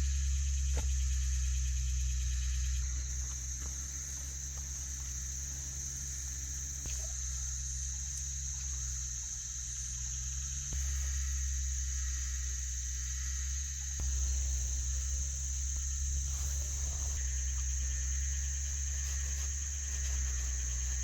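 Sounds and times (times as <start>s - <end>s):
insect chorus droning: 0.0s - 21.0s
low rumble: 0.0s - 21.0s.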